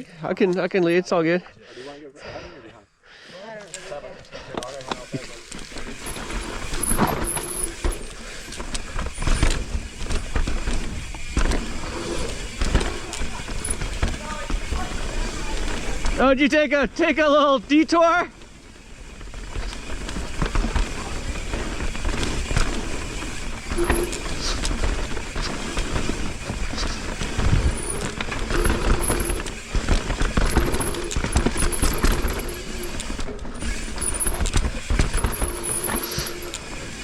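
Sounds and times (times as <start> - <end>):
bike tyres on dirt: 3.3 - 37.0
bike rattling over bumps: 4.6 - 37.0.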